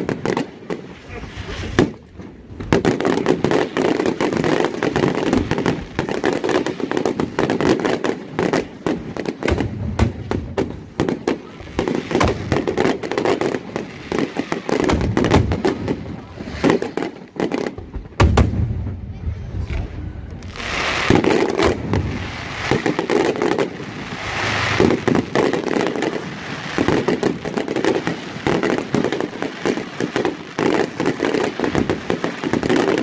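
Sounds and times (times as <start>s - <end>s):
deep fireworks booms: 0.0s - 33.0s
fireworks cracks and bangs: 0.0s - 33.0s.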